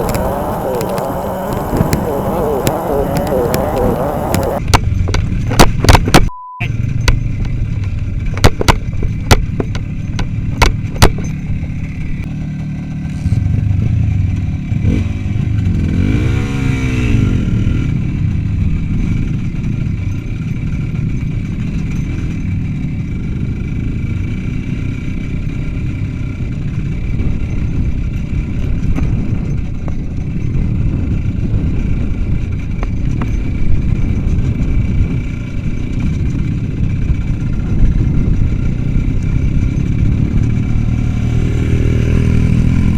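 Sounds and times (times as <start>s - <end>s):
motorcycle engine running: 0.0s - 5.6s, 6.8s - 16.2s, 17.2s - 42.9s.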